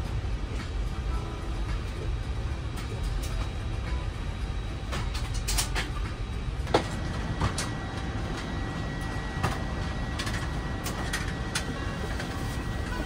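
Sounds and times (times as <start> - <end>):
air conditioning rumble: 0.0 - 13.0
faint steady whine: 0.0 - 13.0.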